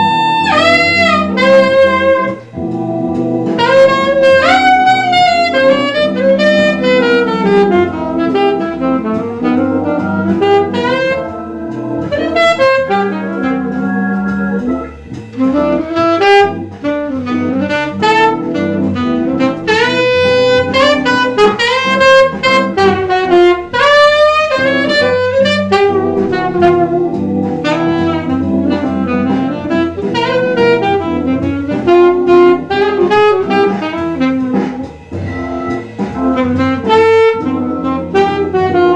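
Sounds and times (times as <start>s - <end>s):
saxophone jazz melody: 0.0s - 38.9s
sustained backing accompaniment: 0.0s - 38.9s.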